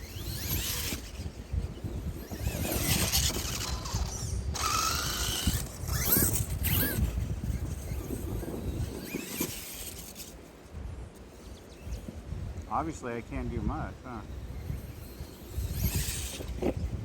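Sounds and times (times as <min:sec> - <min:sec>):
toy truck electric motor whining: 0:00.0 - 0:12.6, 0:14.2 - 0:17.0.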